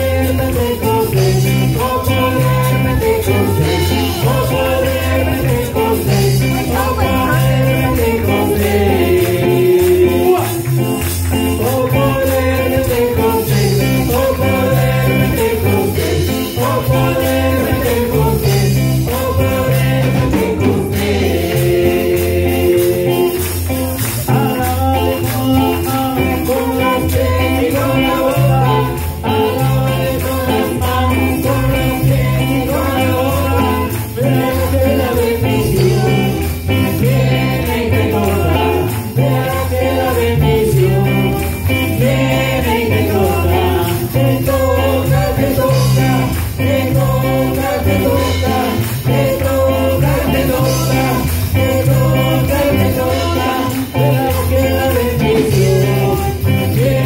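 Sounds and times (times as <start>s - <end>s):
electric bass: 0.0s - 57.0s
electric guitar: 0.0s - 57.0s
keyboard: 0.0s - 57.0s
people singing: 0.0s - 57.0s.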